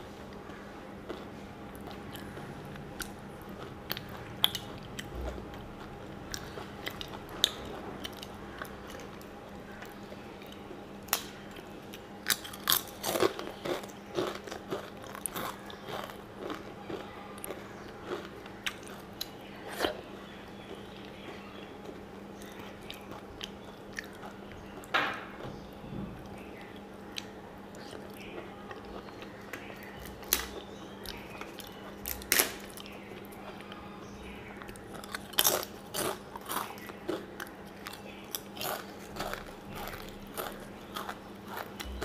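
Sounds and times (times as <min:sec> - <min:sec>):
chewing and crunching food: 0:00.0 - 0:42.0
steady low hum: 0:00.0 - 0:42.0.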